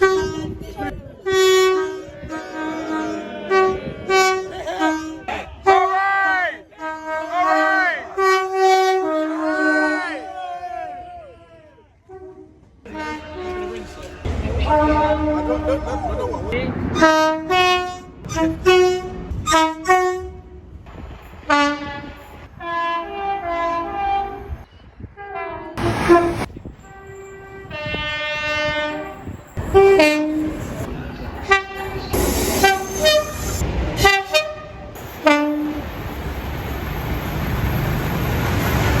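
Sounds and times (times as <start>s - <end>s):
train horn blasts: 0.0s - 6.0s, 6.7s - 10.2s, 12.0s - 15.7s, 16.9s - 20.6s, 21.5s - 35.9s
passing train rumble: 0.0s - 39.0s.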